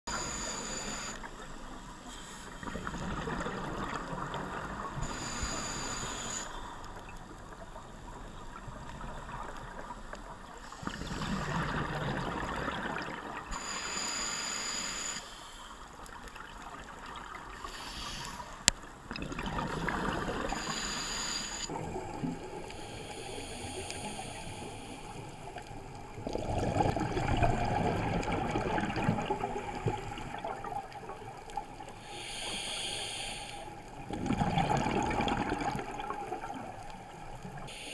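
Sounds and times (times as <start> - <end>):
exhaled bubbles gurgling underwater: 0.1 - 14.3, 16.0 - 21.1, 21.7 - 37.8.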